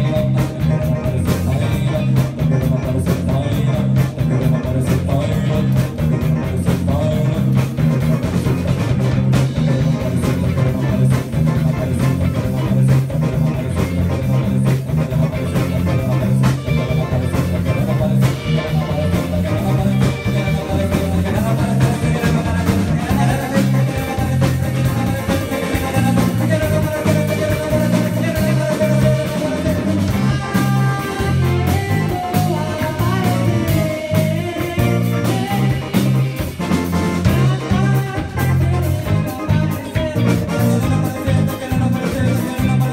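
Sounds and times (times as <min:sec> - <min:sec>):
bass line: 0:00.0 - 0:42.9
drum kit: 0:00.0 - 0:42.9
electric guitar: 0:00.0 - 0:42.9
keyboards: 0:00.0 - 0:42.9
person singing: 0:00.0 - 0:42.9.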